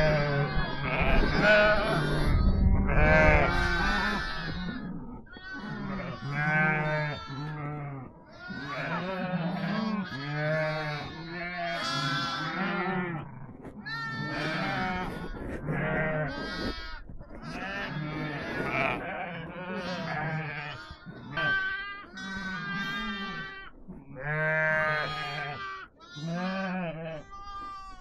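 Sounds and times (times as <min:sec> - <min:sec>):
goats and sheep bleating: 0:00.0 - 0:28.0.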